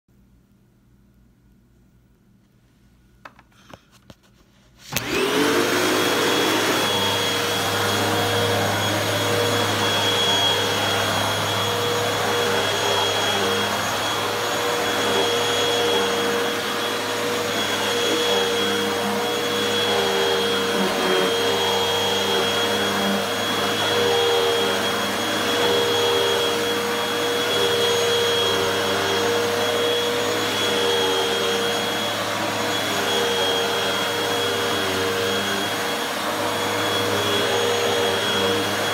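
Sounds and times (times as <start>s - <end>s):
vacuum cleaner motor whining: 4.9s - 38.9s.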